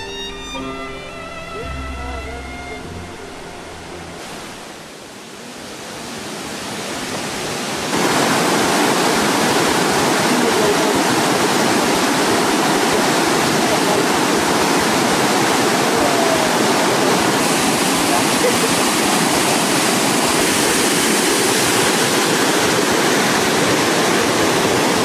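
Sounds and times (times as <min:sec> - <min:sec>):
river water rushing over rocks: 0:02.4 - 0:25.0.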